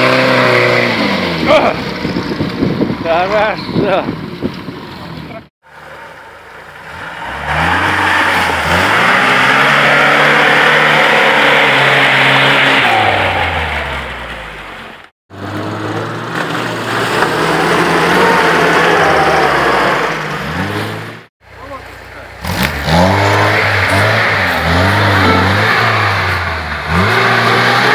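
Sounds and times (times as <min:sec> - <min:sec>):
off-road engines revving: 0:00.0 - 0:27.9.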